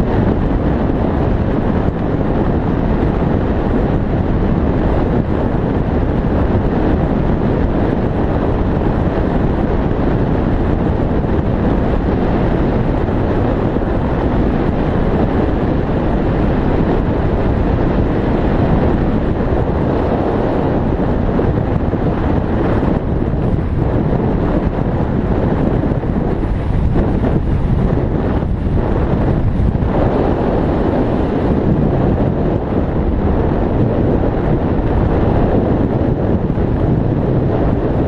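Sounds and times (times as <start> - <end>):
wind roaring over microphone: 0.0 - 38.0.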